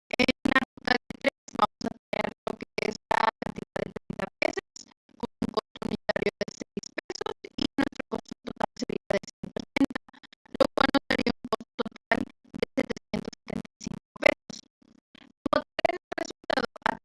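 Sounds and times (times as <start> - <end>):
glitching woman's voice: 0.1 - 14.6, 15.2 - 17.0.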